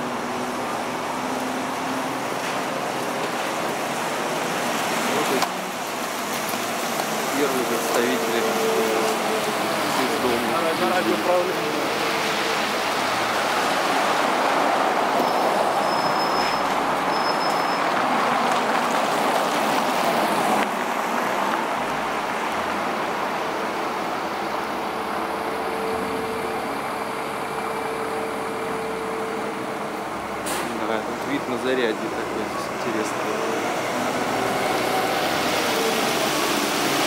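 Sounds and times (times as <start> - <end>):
passing cars rushing: 0.0 - 37.0.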